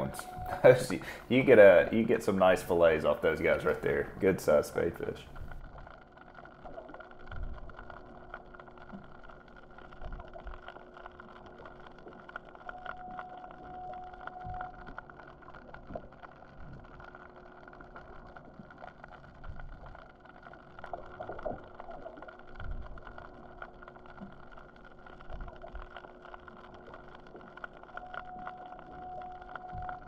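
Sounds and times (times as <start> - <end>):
underwater machinery hum: 0.0 - 30.0.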